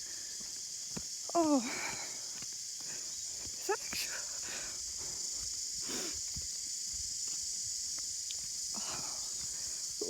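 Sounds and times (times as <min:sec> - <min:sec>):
insect chorus droning: 0:00.0 - 0:10.0.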